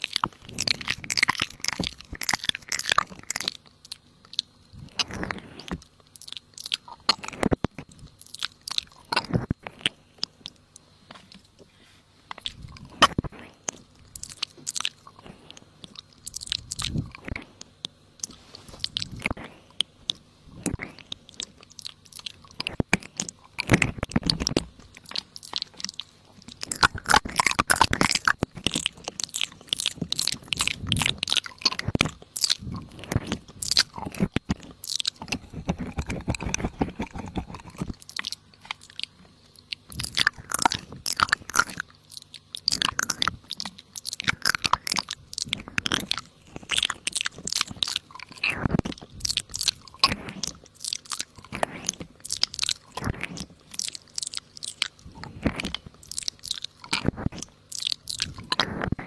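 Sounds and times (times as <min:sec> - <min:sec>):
crisp crunching snaps: 0:00.0 - 0:59.0.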